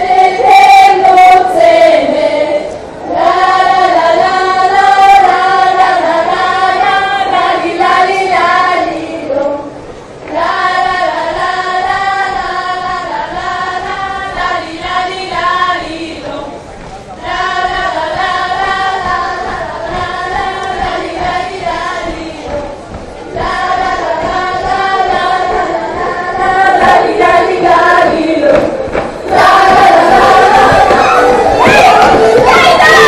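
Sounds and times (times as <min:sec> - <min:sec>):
women singing folk song: 0:00.0 - 0:33.0.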